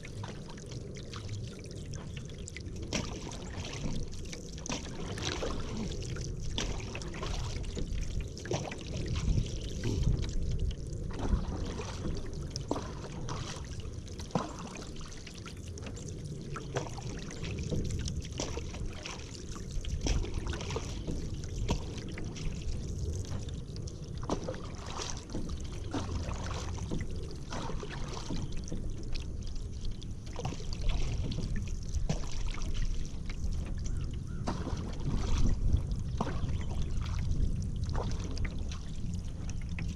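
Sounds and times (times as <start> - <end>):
water dripping: 0.0 - 34.7
low steady rumble: 0.0 - 39.9
paddle splashing in river water: 0.0 - 39.9.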